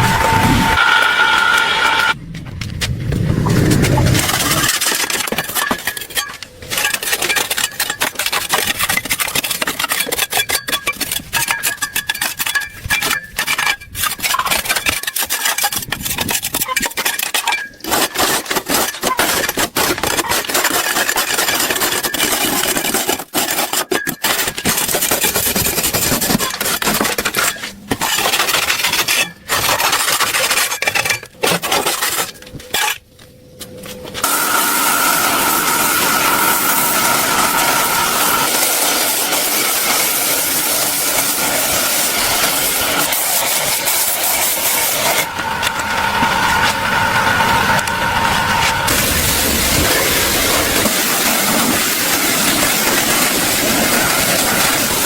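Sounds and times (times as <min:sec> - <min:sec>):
abrasive scraping and rubbing: 0:02.4 - 0:10.3, 0:11.0 - 0:55.0.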